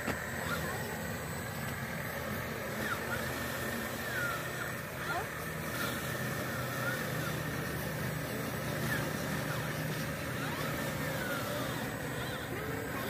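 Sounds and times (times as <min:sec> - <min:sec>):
toy excavator motor humming: 0:00.0 - 0:13.0.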